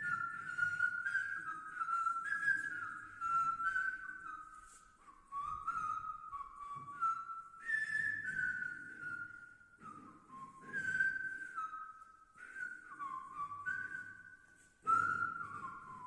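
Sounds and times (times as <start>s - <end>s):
person whistling a melody: 0.0s - 16.0s.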